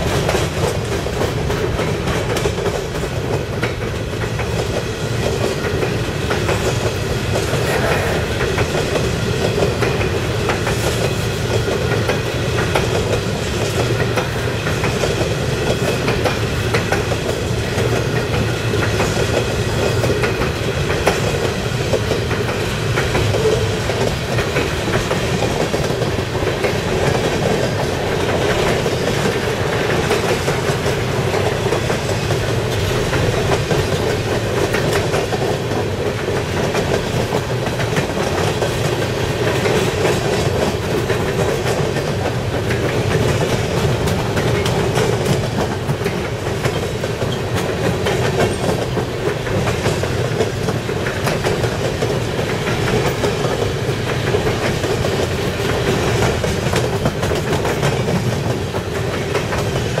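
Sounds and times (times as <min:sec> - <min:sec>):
freight train wheels rumbling: 0:00.0 - 1:00.0
wheels clicking over rail joints: 0:00.0 - 1:00.0.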